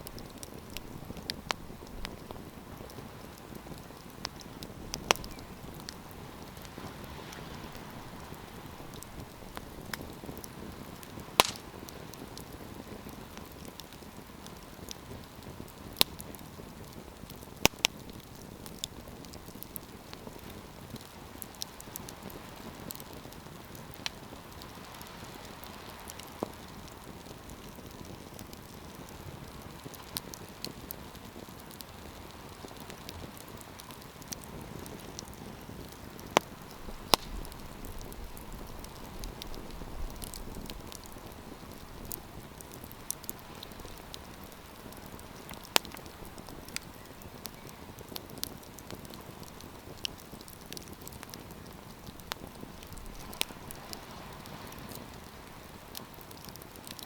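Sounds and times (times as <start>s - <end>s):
fire crackling and popping: 0.0s - 57.0s
rush of campfire flames: 0.0s - 57.0s.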